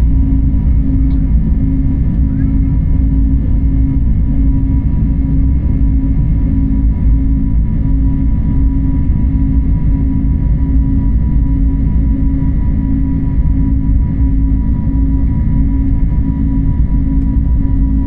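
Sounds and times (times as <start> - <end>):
airliner engines rumbling: 0.0 - 18.0
faint constant hums: 0.0 - 18.0.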